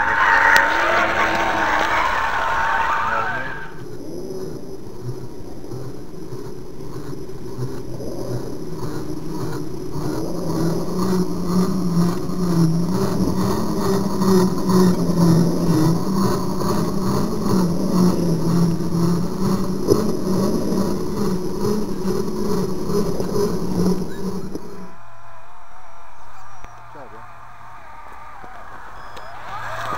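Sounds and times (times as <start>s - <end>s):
electric motor and gear whine: 0.0s - 29.9s.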